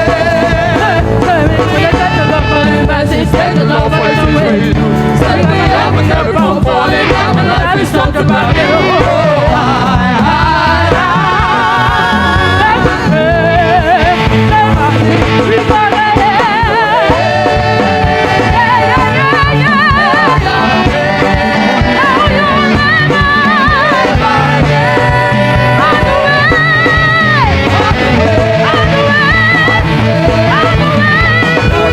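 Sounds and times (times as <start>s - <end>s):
live band music: 0.0s - 31.9s.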